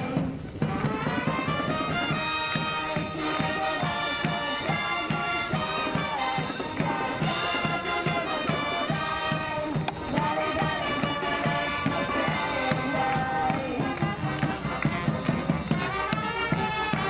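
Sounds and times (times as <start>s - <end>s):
marching brass band playing: 0.0s - 17.0s
steady drum beat: 0.0s - 17.0s.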